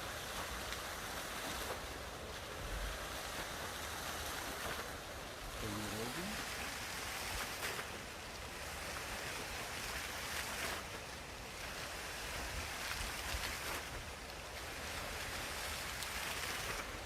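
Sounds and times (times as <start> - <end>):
rushing water hiss: 0.0 - 17.0.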